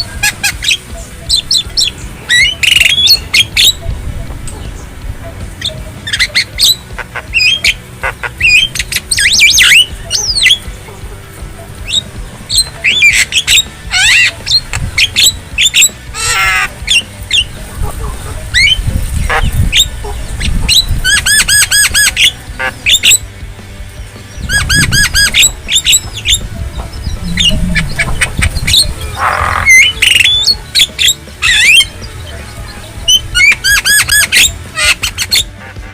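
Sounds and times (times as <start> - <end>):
myna squawking and whistling: 0.0 - 10.8, 11.6 - 23.3, 24.3 - 35.9.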